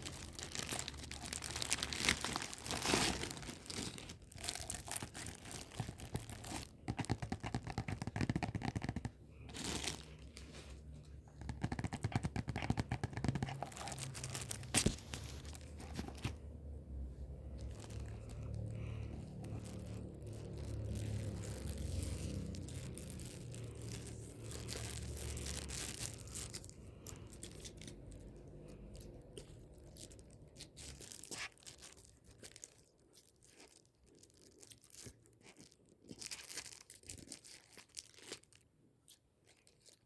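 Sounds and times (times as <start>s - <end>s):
packaging crinkling and tearing: 0.0s - 10.8s, 11.4s - 16.5s, 17.5s - 28.4s, 29.7s - 38.6s.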